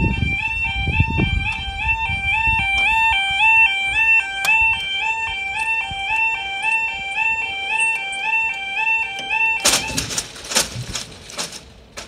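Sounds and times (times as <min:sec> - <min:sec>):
crossing alarm two-tone warble: 0:00.0 - 0:12.0.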